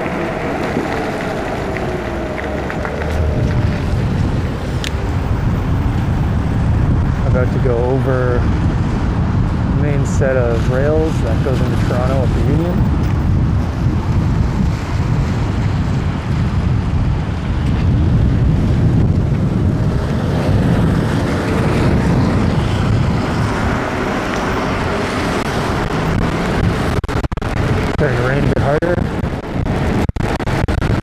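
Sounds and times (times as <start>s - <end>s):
rain: 0.0s - 31.0s
wind buffeting microphone: 0.0s - 31.0s.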